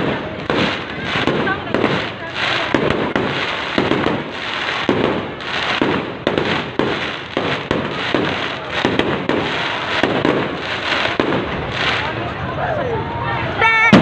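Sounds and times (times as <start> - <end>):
fireworks bangs: 0.0 - 12.4, 13.6 - 14.0
fireworks crackling: 0.0 - 12.6, 13.5 - 14.0.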